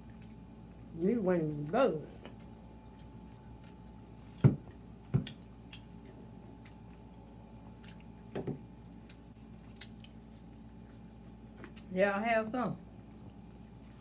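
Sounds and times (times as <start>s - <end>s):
people chewing food: 0.0s - 12.0s, 12.8s - 14.0s.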